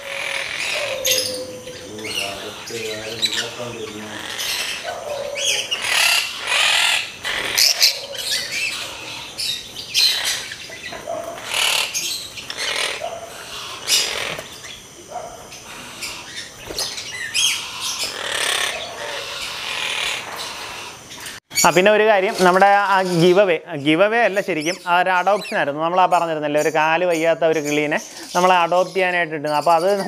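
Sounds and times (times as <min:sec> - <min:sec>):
parakeets chattering calls: 0:00.0 - 0:30.0.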